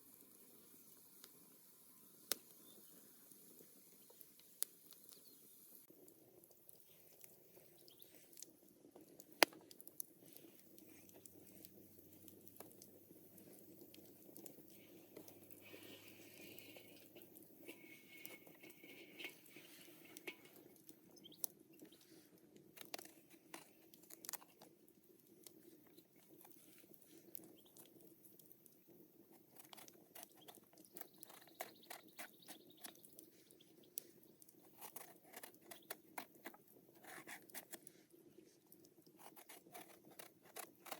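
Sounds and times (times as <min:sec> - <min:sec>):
soft clicks and crunches: 0:06.0 - 0:40.9.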